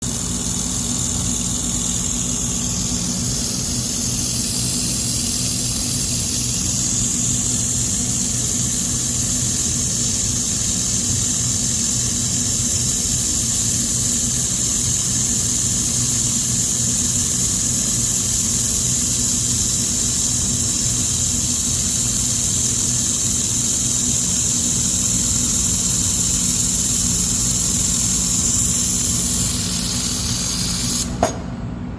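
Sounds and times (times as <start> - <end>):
laser welding machine humming: 0.0 - 31.9.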